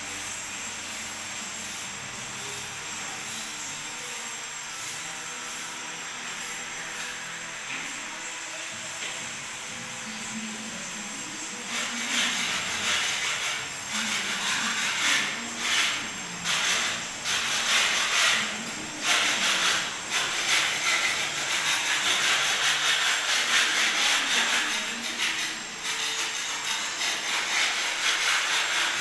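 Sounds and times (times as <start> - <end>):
broom sweeping concrete floor: 0.0 - 29.0.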